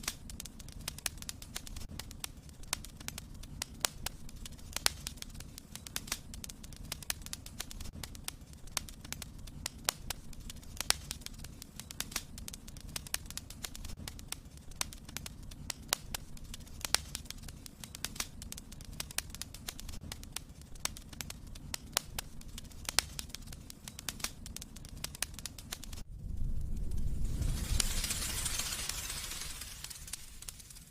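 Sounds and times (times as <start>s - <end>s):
fire crackling and popping: 0.0s - 30.9s.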